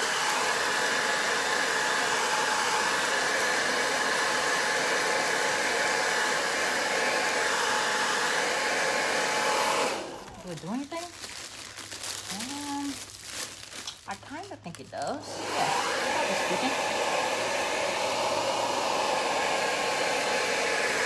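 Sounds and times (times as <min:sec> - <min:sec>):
hair dryer running: 0:00.0 - 0:11.2, 0:12.3 - 0:12.9, 0:14.3 - 0:21.0.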